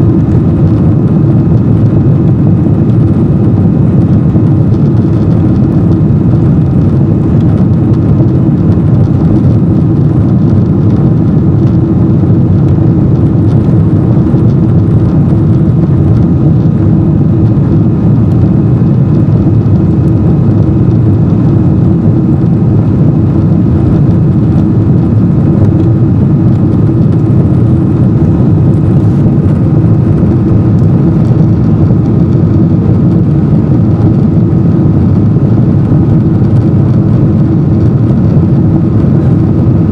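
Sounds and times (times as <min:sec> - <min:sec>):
faint steady whine: 0:00.0 - 0:39.9
jet engines roaring in cabin: 0:00.0 - 0:39.9.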